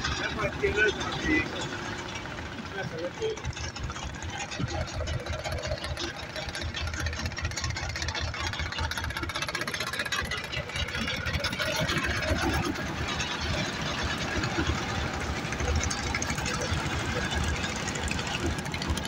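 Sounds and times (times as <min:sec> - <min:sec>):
engine running with rattle: 0:00.0 - 0:19.0.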